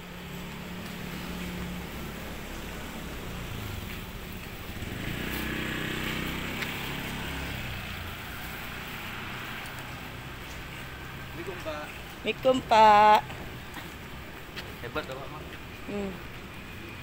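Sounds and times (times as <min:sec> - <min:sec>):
steady traffic noise: 0:00.0 - 0:17.0
vehicle engine passing: 0:00.1 - 0:17.0.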